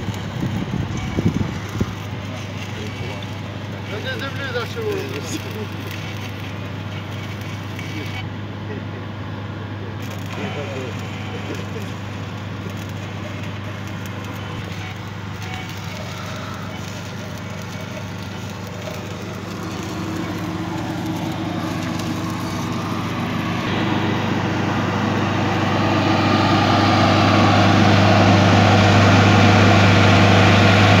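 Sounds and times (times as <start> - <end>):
diesel generator humming: 0.0 - 31.0.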